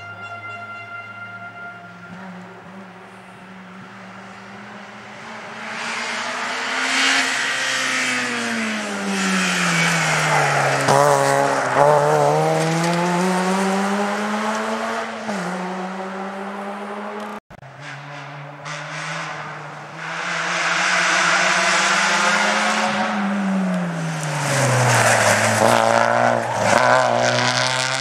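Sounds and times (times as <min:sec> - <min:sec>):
rally car engine passing: 0:01.8 - 0:28.0.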